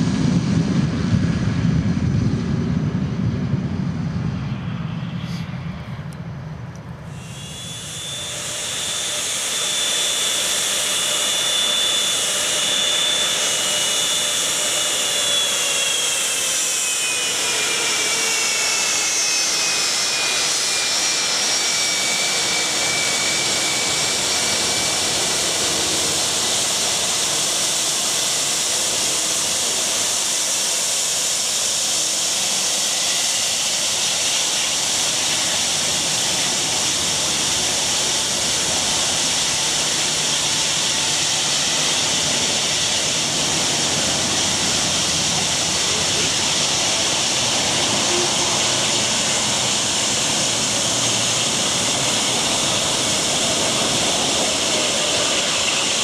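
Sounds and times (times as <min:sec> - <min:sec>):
jet engines whining: 0:00.0 - 0:56.0
thin whining tone: 0:07.0 - 0:56.0.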